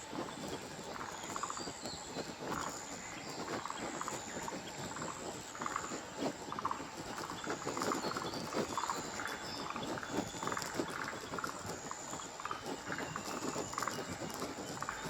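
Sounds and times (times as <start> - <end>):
cicadas croaking chorus: 0.0 - 15.0.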